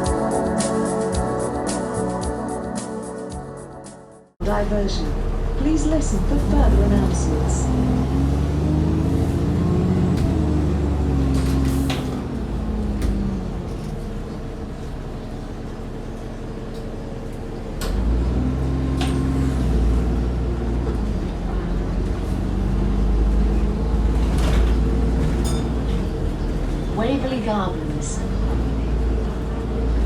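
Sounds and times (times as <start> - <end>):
bus engine revving: 4.4 - 30.0.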